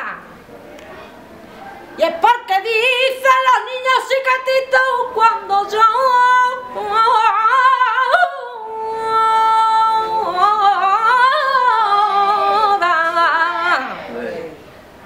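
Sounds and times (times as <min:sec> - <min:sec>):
woman singing flamenco: 0:02.0 - 0:14.1.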